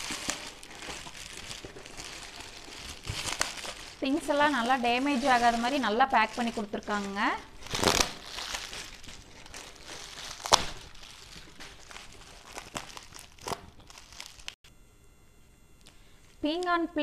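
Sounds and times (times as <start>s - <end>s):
bubble wrap crinkling: 0.0s - 14.6s
sharp crackle of bubble wrap: 0.0s - 14.6s.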